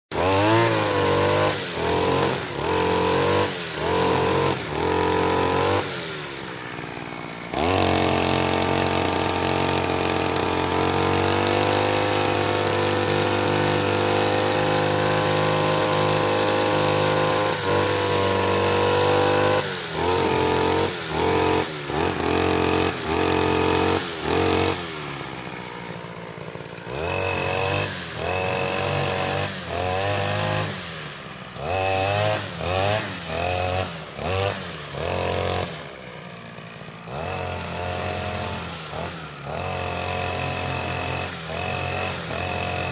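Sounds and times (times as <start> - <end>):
grass trimmer revving: 0.1 - 42.9.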